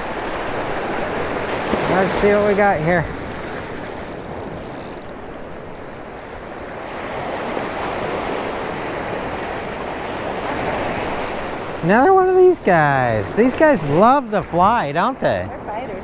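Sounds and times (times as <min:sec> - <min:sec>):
surf washing onto a beach: 0:00.0 - 0:16.0.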